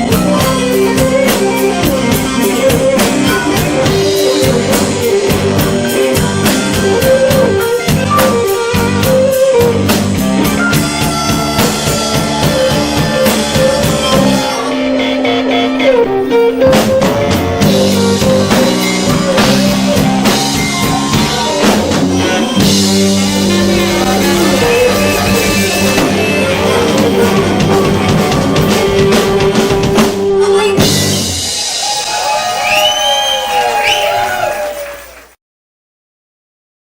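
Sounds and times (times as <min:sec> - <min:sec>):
bass: 0:00.0 - 0:35.4
drum kit: 0:00.0 - 0:35.4
guitar: 0:00.0 - 0:35.4.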